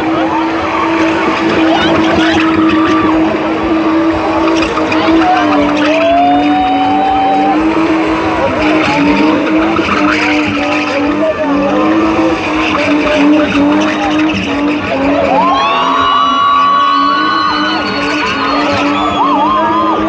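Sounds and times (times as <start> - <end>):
car engine at high revs: 0.0 - 20.0
tyres skidding: 0.0 - 20.0.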